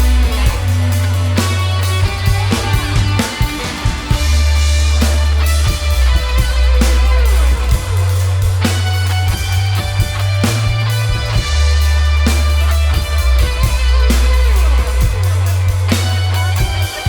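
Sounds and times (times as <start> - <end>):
deep bass notes: 0.0 - 17.0
drum kit: 0.0 - 17.0
electric guitars: 0.0 - 17.0.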